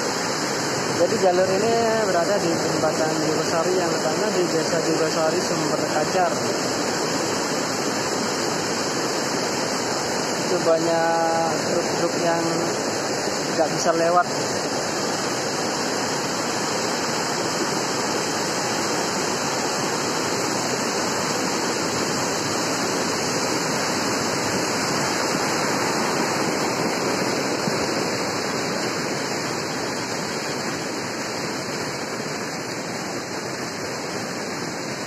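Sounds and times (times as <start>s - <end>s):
floodwater rushing past: 0.0s - 35.0s.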